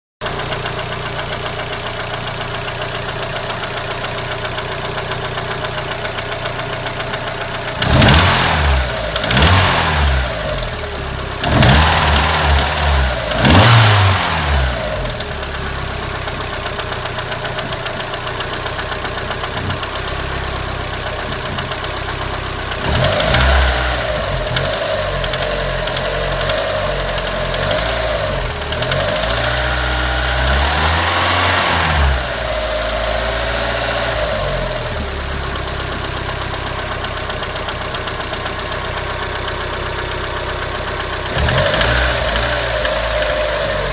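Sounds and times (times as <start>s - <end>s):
car engine idling and revving: 0.2s - 43.9s.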